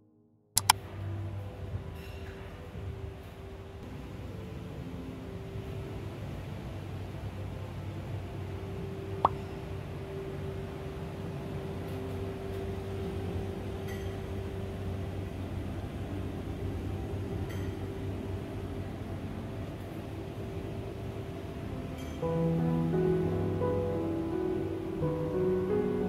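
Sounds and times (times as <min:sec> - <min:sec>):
ventilation machinery hum: 0:00.6 - 0:26.0.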